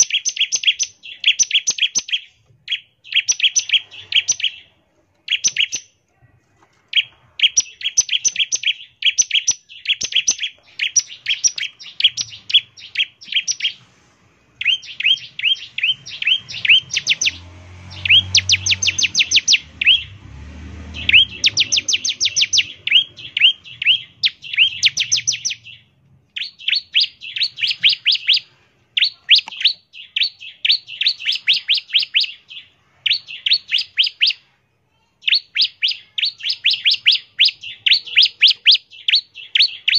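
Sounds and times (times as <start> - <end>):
bird singing rapid sharp chirps: 0.0 - 6.0, 6.9 - 13.8, 14.6 - 34.5, 35.2 - 39.9.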